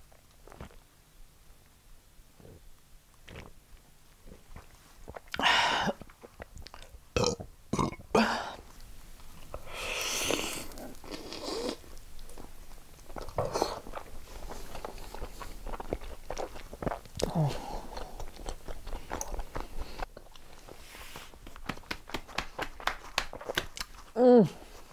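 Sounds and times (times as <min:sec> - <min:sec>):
person chewing pizza: 0:02.4 - 0:07.9, 0:08.6 - 0:21.9, 0:22.5 - 0:24.9.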